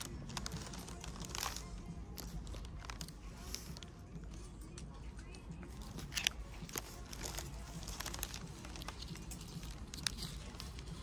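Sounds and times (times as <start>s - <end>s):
fabric and paper tags rustling: 0.0s - 11.0s.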